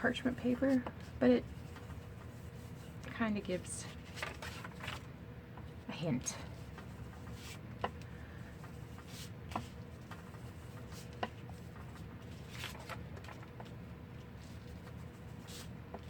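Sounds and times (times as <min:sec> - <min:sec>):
low room hum: 0:00.0 - 0:16.0
paper rustling: 0:00.1 - 0:05.8, 0:06.4 - 0:16.0.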